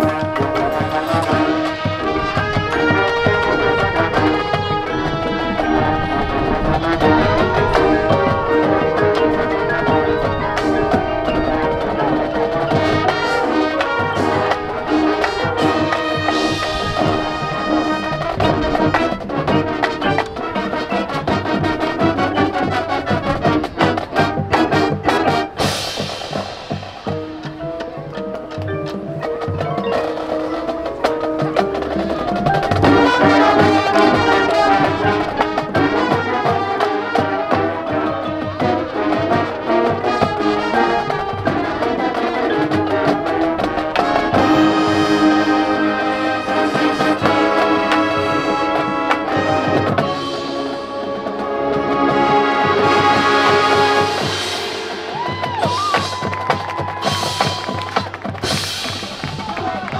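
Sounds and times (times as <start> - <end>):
marching band playing: 0.0 - 59.9.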